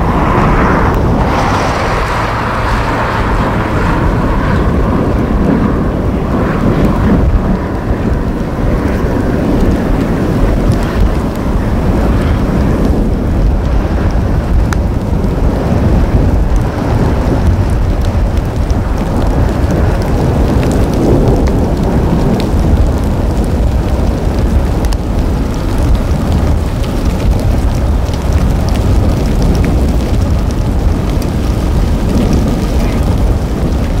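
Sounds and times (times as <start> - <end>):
heavy rain: 0.0 - 34.0
low thunder rumble: 0.0 - 34.0
sharp ticks of raindrops: 0.0 - 34.0.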